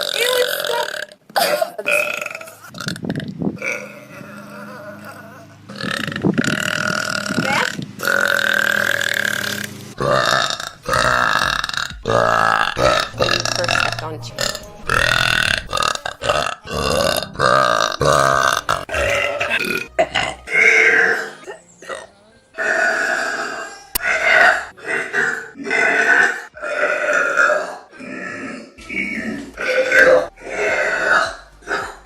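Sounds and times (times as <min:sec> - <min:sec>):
woman burping: 0:00.0 - 0:09.4, 0:10.0 - 0:26.4.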